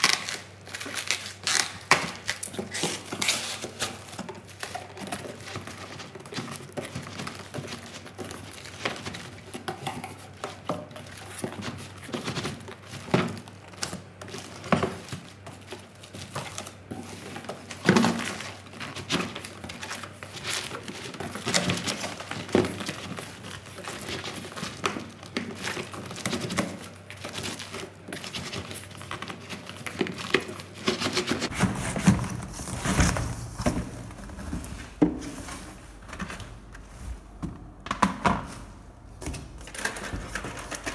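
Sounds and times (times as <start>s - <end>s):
cardboard and paper rustling: 0.0s - 37.5s, 38.2s - 40.9s.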